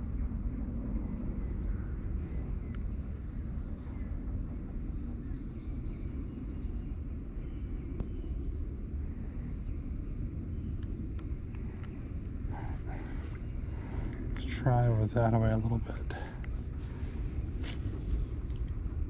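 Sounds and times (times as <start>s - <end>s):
steady low rumble: 0.0s - 19.0s
songbird singing: 1.5s - 18.4s.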